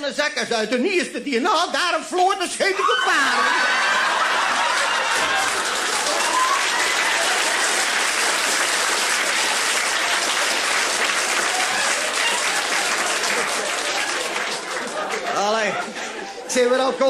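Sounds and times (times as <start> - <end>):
audience applauding: 2.8 - 16.7.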